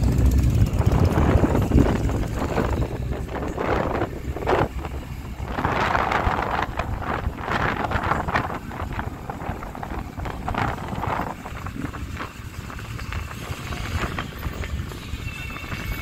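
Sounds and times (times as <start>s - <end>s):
street noise: 0.0s - 16.0s
vehicles passing: 0.0s - 16.0s
wind rumbling on microphone: 0.0s - 16.0s.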